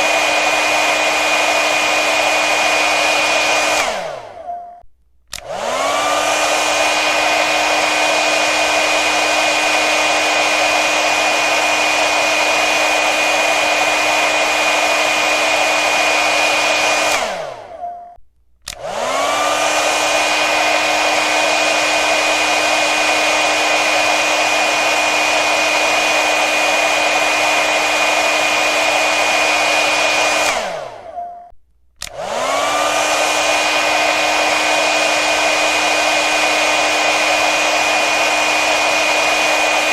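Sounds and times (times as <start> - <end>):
hair dryer blowing: 0.0 - 4.5, 5.3 - 17.8, 18.6 - 31.2, 32.0 - 39.9.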